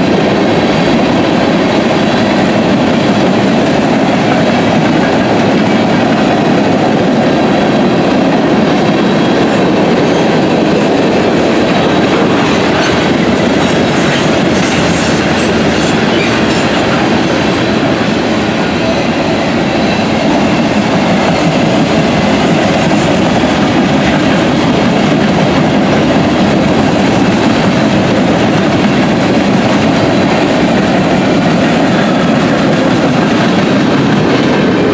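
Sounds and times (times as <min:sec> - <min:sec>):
clickety-clack over rail joints: 0:00.0 - 0:34.9
train wheels rumbling on track: 0:00.0 - 0:34.9.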